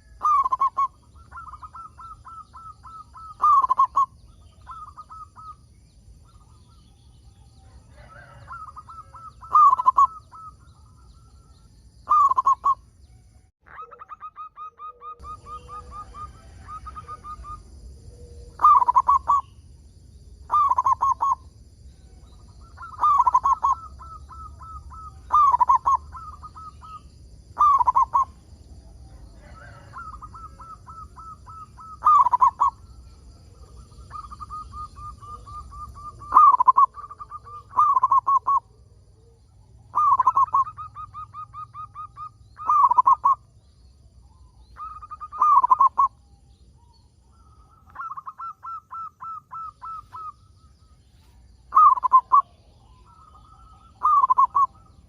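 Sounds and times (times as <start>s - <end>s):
dove cooing: 0.0s - 12.9s, 13.7s - 19.6s, 20.4s - 43.6s, 44.3s - 46.2s, 46.8s - 55.0s.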